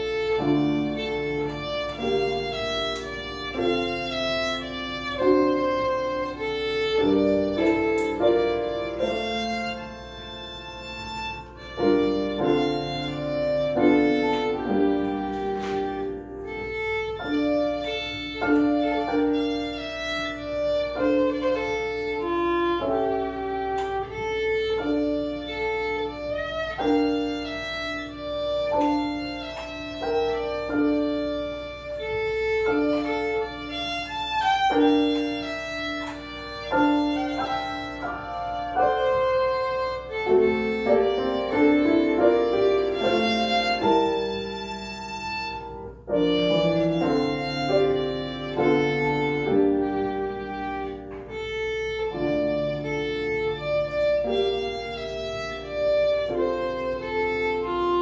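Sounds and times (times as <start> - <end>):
violin melody: 0.0 - 58.0.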